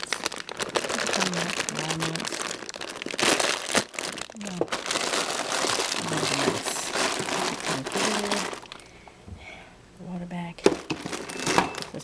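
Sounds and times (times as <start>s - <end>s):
plastic bag crinkling: 0.0s - 9.1s, 10.6s - 12.0s.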